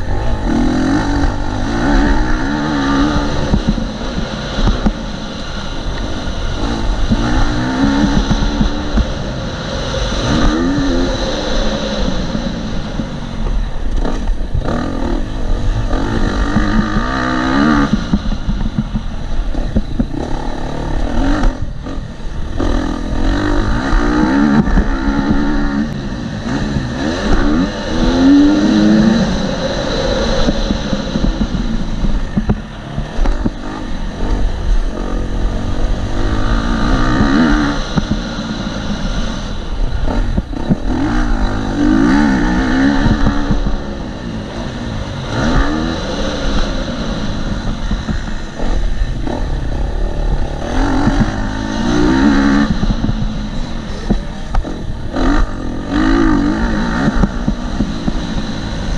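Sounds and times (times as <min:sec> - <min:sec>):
dirt bike engine revving: 0:00.0 - 0:58.9
wind noise on camera: 0:00.0 - 0:58.9.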